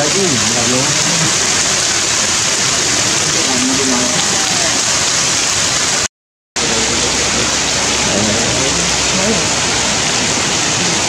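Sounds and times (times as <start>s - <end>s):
heavy rain on stone and foliage: 0.0s - 11.0s.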